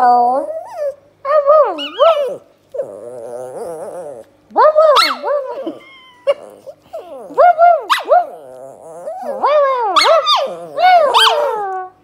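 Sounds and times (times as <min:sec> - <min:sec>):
dog yowling: 0:01.6 - 0:04.3, 0:04.9 - 0:11.9.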